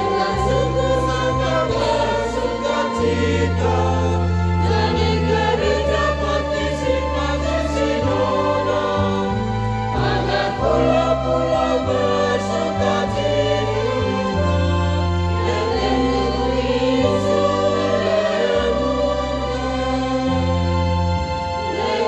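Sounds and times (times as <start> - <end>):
choir singing a hymn: 0.0 - 22.0
steady low notes: 0.0 - 22.0.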